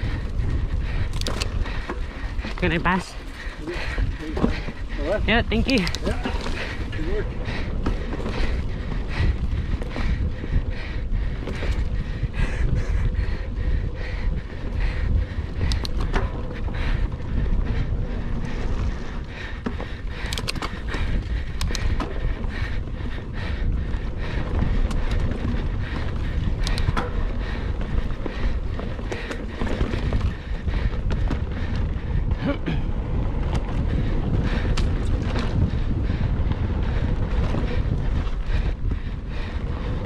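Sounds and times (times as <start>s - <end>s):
bike clicks and rattles: 0.0s - 40.0s
wind rumbling on microphone: 0.0s - 40.0s.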